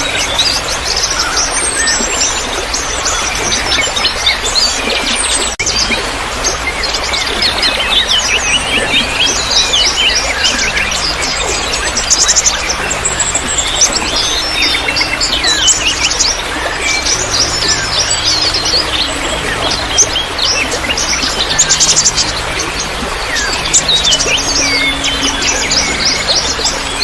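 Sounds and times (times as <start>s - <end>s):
songbirds chirping and trilling: 0.0s - 27.0s
trickling water: 0.0s - 27.0s.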